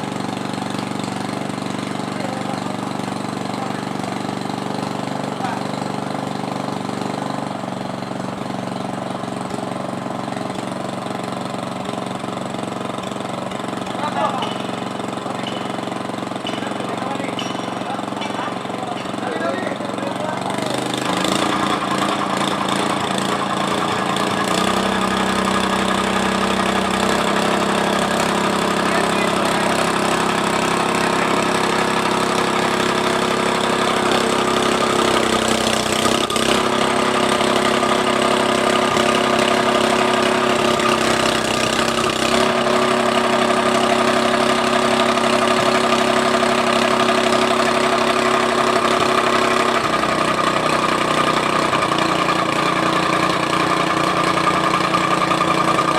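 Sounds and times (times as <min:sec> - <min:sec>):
tamping rammer engine running: 0:00.0 - 0:55.9.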